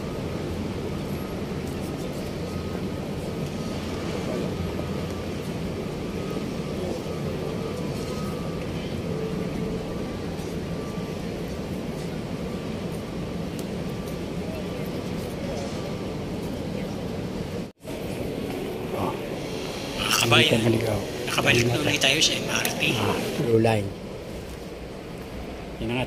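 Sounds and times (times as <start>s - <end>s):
low city rumble: 0.0s - 26.0s.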